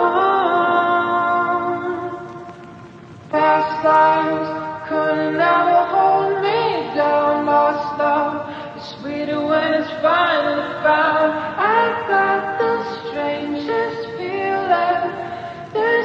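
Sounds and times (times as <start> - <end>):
voices singing: 0.0 - 2.5, 3.3 - 16.0.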